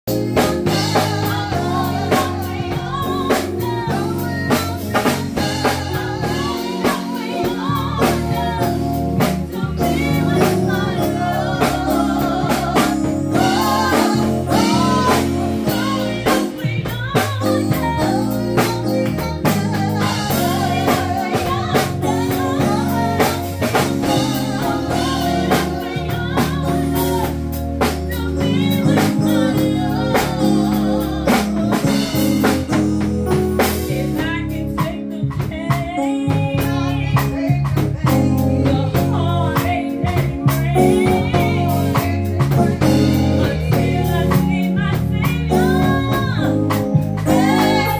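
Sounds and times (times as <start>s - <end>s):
drum kit: 0.0s - 47.9s
keyboard: 0.0s - 47.9s
low bass notes: 0.1s - 47.9s
two women singing: 0.1s - 47.9s.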